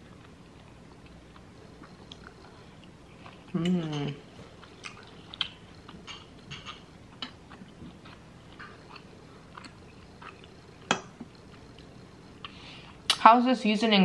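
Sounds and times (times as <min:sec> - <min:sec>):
person chewing food: 0:00.0 - 0:13.1.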